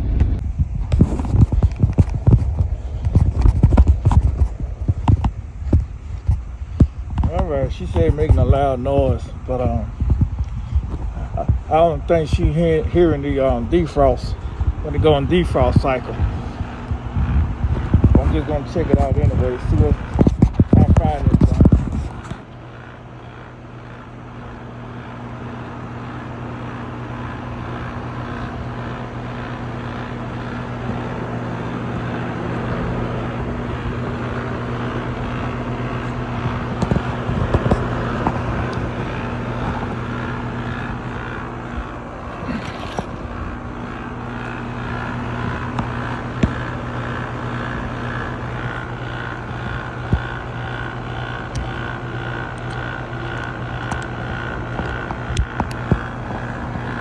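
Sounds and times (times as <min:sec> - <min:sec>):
compressor electrical hum: 0:00.0 - 0:57.0
condenser fan whoosh: 0:00.0 - 0:57.0.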